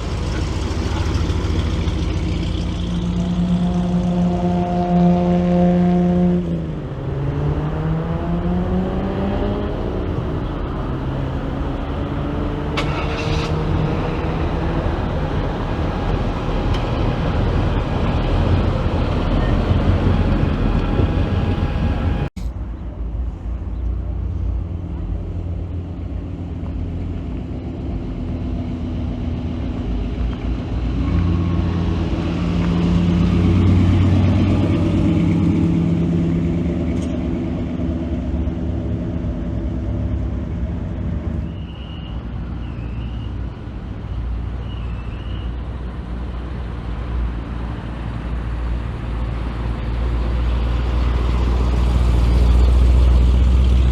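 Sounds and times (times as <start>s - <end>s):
car engines driving by: 0.0s - 53.9s.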